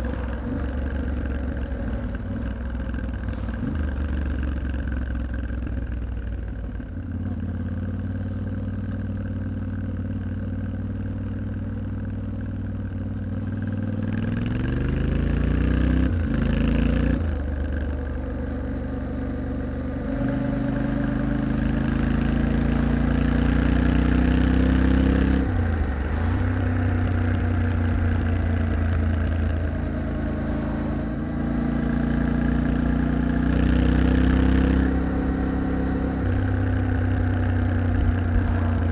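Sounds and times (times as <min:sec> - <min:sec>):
engine running: 0:00.0 - 0:08.6, 0:14.8 - 0:38.9.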